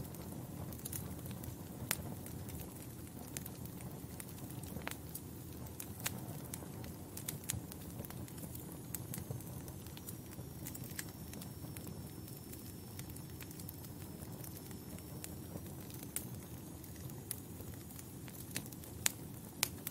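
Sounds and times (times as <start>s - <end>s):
fire pops and snaps: 0.0s - 19.9s
flames rumbling: 0.0s - 19.9s
log fire crackling: 0.0s - 19.9s.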